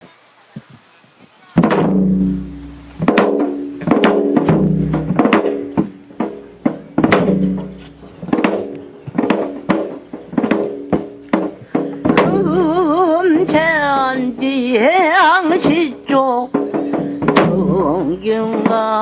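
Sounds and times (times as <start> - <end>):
heavy drum strokes: 1.6 - 19.0.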